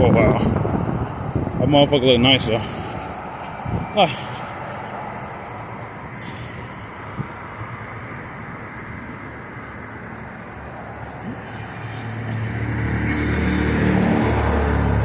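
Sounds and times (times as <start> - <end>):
street traffic hiss: 0.0 - 15.0
vehicle engine humming: 0.0 - 15.0.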